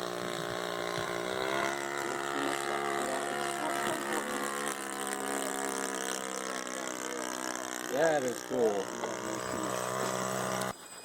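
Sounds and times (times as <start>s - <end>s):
model plane engine droning: 0.0s - 10.8s.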